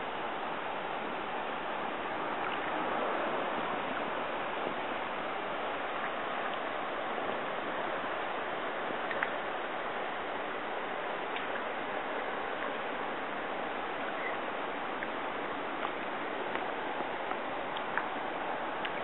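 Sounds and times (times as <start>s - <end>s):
stream water rippling: 0.0s - 19.0s.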